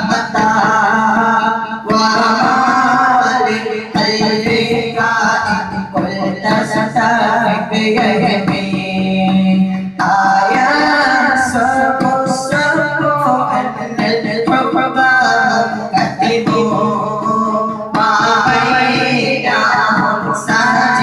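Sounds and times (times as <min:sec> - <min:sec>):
boys singing into microphones: 0:00.0 - 0:21.0.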